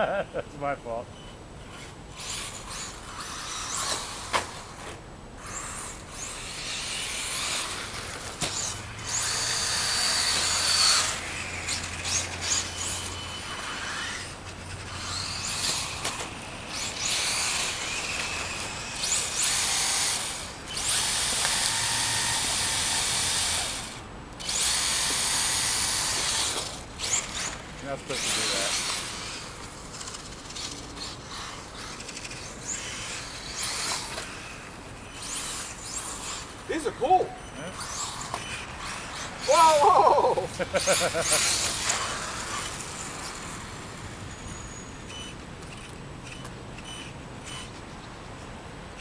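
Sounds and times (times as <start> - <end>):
electric motor whining: 1.6 - 47.7.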